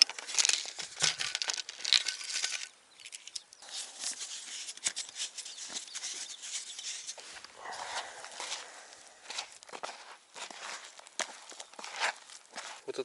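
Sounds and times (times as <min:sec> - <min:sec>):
fishing tackle rustling and clicking: 0:00.0 - 0:13.0.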